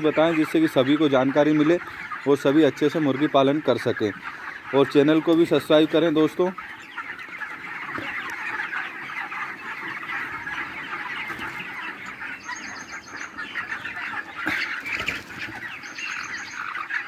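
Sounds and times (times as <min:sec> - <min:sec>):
chickens chirping and clucking: 0:00.0 - 0:17.0.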